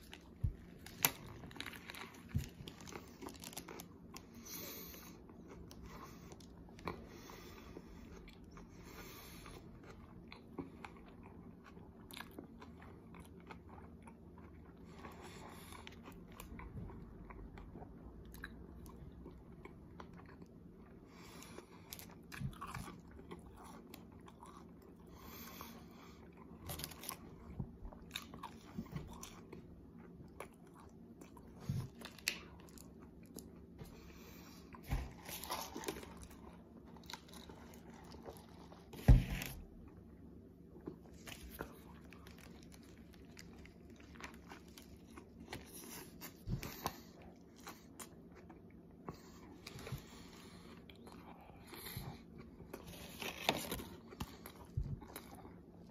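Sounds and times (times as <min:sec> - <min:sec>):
chewing food: 0:00.0 - 0:55.9
faint room hum: 0:00.0 - 0:55.9.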